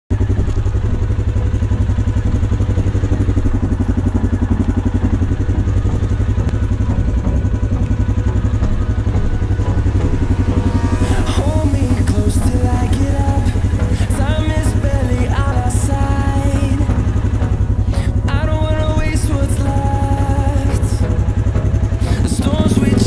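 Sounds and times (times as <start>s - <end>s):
atv engine idling: 0.1s - 23.0s.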